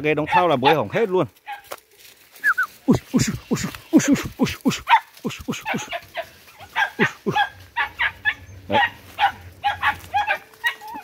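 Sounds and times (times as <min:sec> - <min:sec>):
dogs barking: 0:00.2 - 0:01.7, 0:03.1 - 0:11.0.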